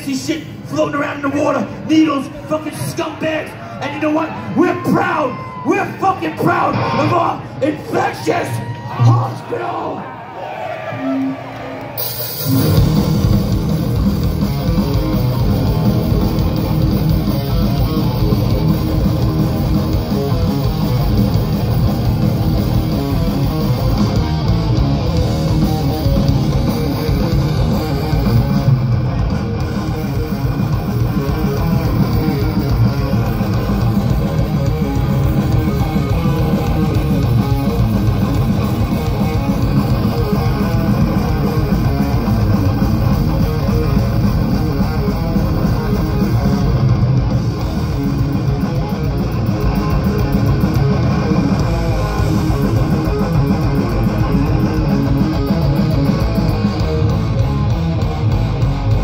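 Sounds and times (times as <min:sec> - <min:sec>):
thrash metal band playing: 0:05.9 - 0:09.6, 0:12.0 - 0:59.0.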